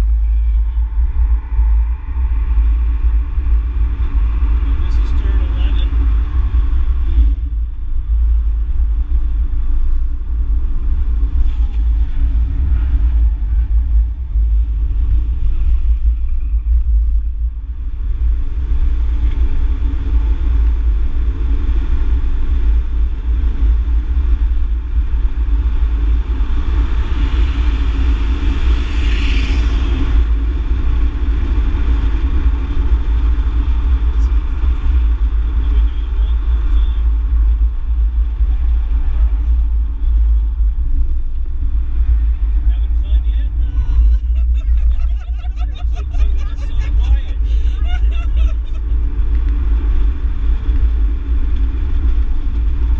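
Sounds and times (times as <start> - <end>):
car engine rumble inside cabin: 0.0 - 52.9.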